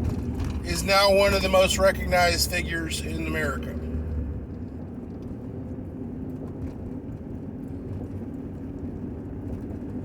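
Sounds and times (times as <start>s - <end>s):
vehicle engine low rumble: 0.0s - 10.0s.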